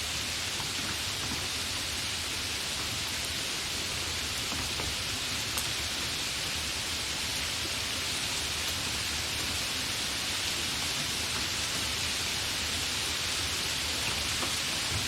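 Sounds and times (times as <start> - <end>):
light rain hissing: 0.0 - 15.0.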